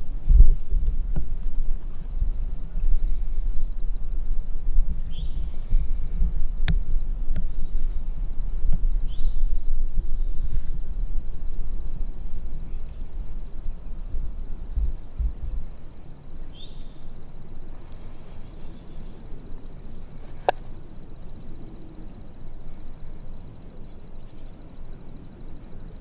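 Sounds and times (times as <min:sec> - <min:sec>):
birds chirping: 0:00.0 - 0:26.0
low microphone rumble: 0:00.0 - 0:26.0.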